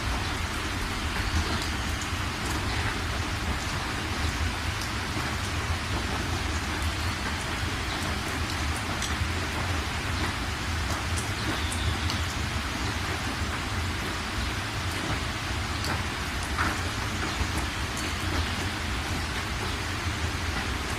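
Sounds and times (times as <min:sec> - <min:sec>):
continuous low rumble: 0:00.0 - 0:20.9
raindrops ticking: 0:00.0 - 0:20.9
steady rain falling: 0:00.0 - 0:20.9.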